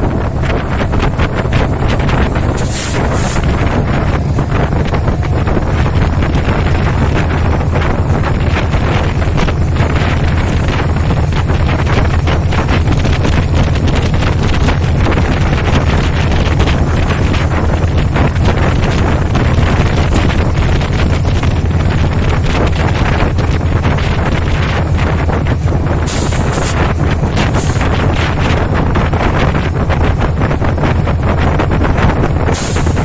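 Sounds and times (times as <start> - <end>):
train rumbling past: 0.0 - 33.0
wheels clattering over rails: 0.0 - 33.0
wind buffeting microphone: 0.0 - 33.0.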